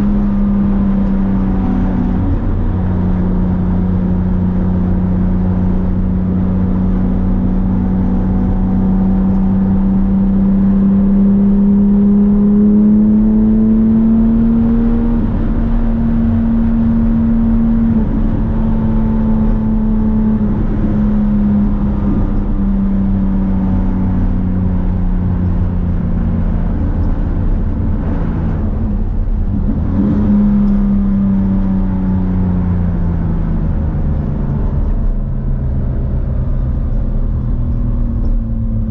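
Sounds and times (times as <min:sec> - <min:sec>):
sports car engine revving: 0:00.0 - 0:38.9.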